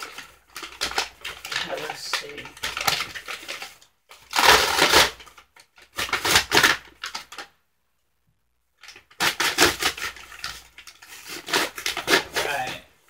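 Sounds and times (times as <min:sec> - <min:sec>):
paper crinkling and rustling: 0:00.0 - 0:07.5, 0:08.8 - 0:12.9.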